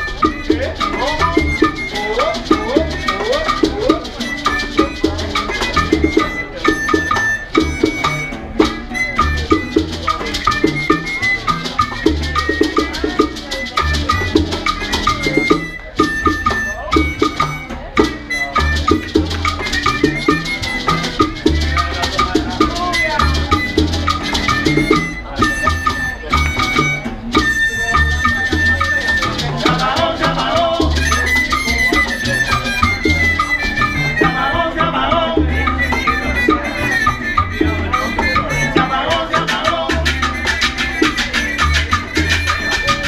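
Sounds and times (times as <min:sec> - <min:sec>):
salsa dance music: 0:00.0 - 0:43.0.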